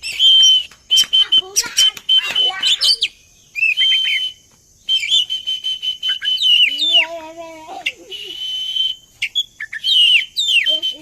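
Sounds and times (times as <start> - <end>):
bird whistling and chattering: 0.0 - 11.0
low wavering bird call: 0.0 - 11.0.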